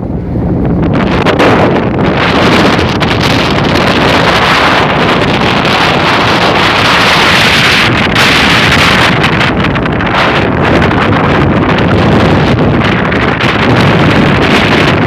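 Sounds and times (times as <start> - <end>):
rough sea waves rushing: 0.0 - 15.0
wind buffeting microphone: 0.0 - 15.0.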